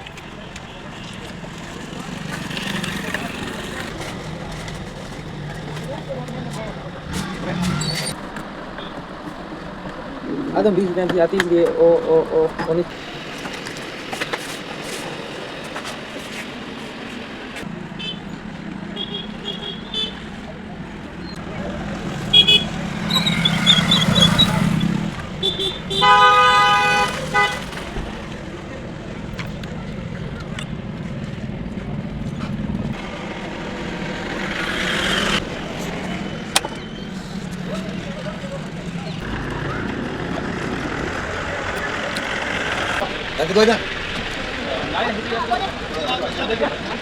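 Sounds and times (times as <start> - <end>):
low engine hum: 0.0 - 19.1, 19.9 - 47.0
road vehicle noise: 0.0 - 47.0.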